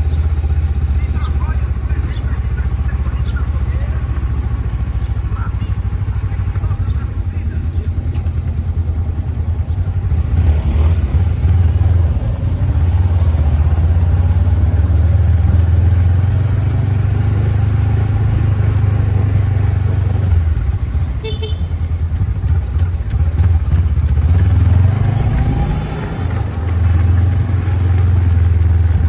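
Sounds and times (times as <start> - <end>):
motor vehicle rumbling: 0.0 - 29.0.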